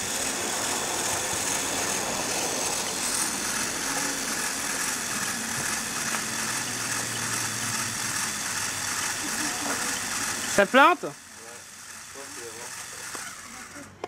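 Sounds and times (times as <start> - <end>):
motors and gears whirring: 0.0 - 14.0.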